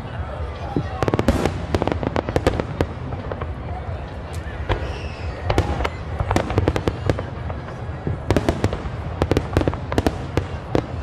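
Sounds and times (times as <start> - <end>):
fireworks sharp bangs: 0.7 - 11.0.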